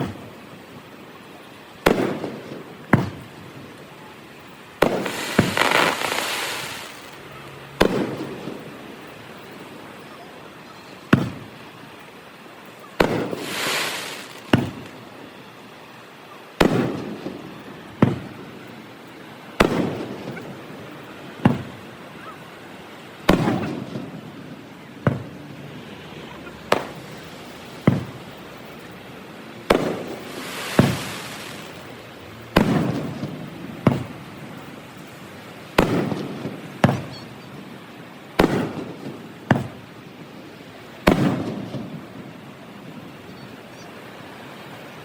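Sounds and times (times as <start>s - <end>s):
fireworks bursting with bangs: 0.0s - 0.9s, 1.8s - 11.8s, 12.7s - 15.8s, 16.5s - 43.2s
crackling hiss of fireworks: 0.0s - 45.0s.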